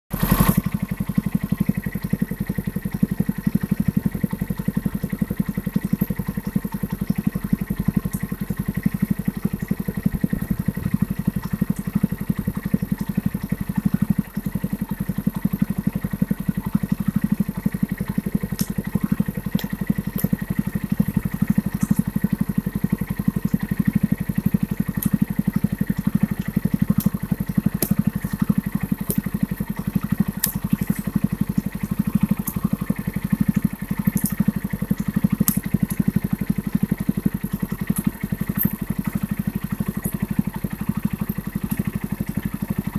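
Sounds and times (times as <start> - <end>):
motorcycle engine idling: 0.1 - 42.9.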